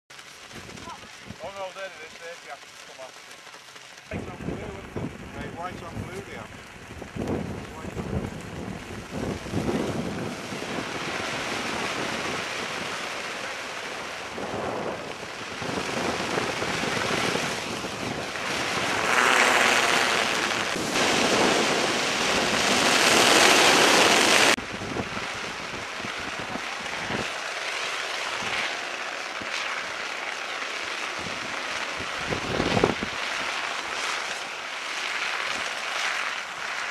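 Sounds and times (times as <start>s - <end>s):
kites rushing through air: 0.1s - 36.9s.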